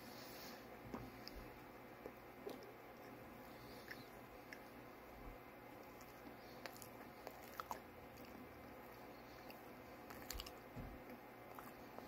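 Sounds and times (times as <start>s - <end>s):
person chewing snack cake: 0.8s - 12.0s.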